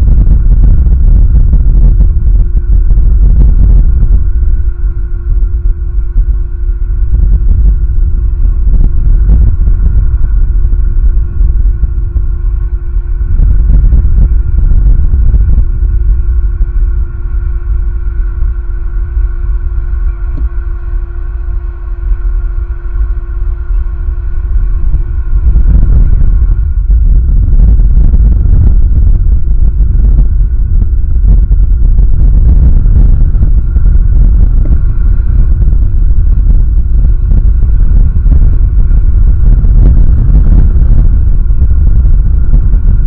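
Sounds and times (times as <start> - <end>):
steady hum: 0.0 - 43.0
wind buffeting microphone: 0.0 - 43.0.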